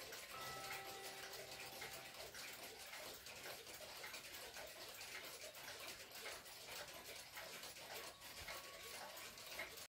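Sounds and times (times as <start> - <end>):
clock ticking: 0.0 - 9.9.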